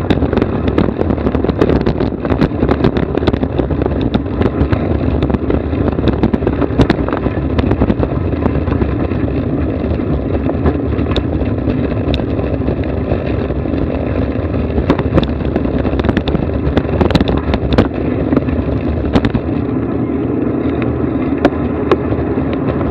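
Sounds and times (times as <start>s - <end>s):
sharp clicks and knocks: 0.0s - 19.7s
vehicle running noise: 0.0s - 22.9s.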